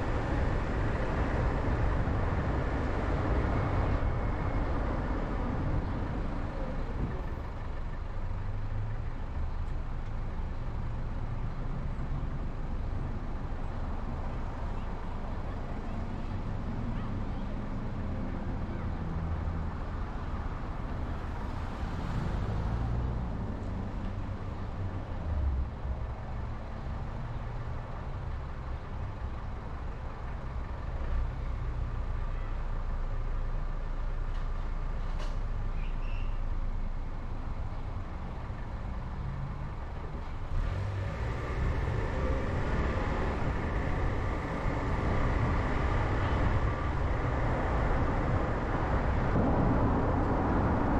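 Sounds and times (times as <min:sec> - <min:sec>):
car engine and road rumble: 0:00.0 - 0:50.9.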